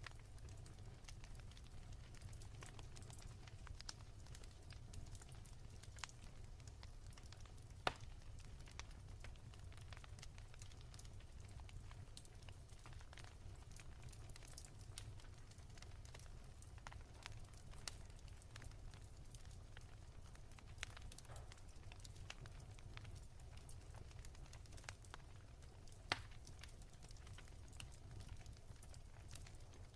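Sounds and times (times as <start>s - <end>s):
low fire rumble: 0.0s - 29.9s
pops and snaps from burning logs: 0.0s - 29.9s
wood fire crackling: 0.0s - 29.9s.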